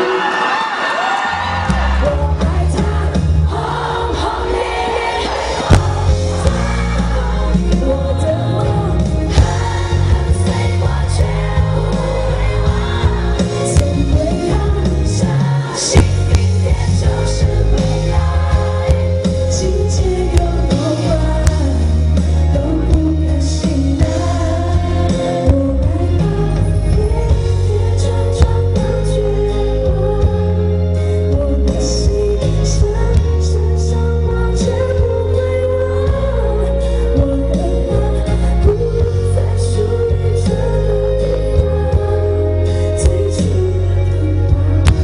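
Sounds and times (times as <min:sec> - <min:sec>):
band with bass and drums: 0:00.0 - 0:45.0
woman singing pop ballad: 0:00.0 - 0:45.0.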